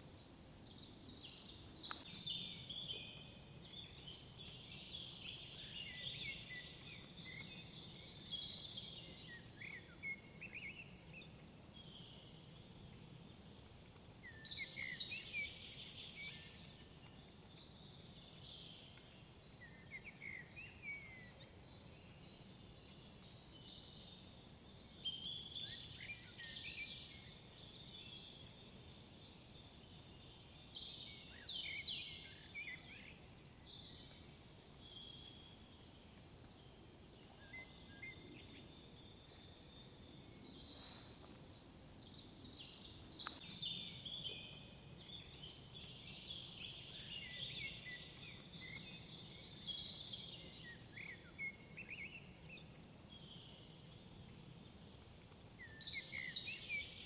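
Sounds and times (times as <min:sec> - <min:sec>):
songbirds singing and calling: 0:00.1 - 0:57.0.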